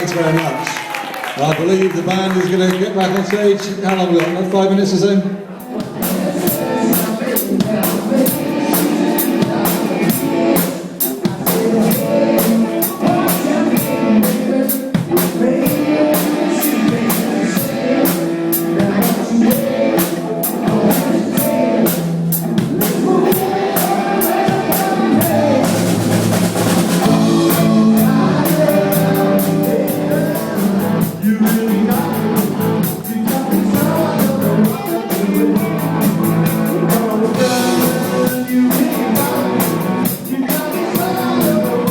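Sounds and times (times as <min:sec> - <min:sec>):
live rock band playing: 0:05.5 - 0:41.9
drum kit beat: 0:05.6 - 0:41.9.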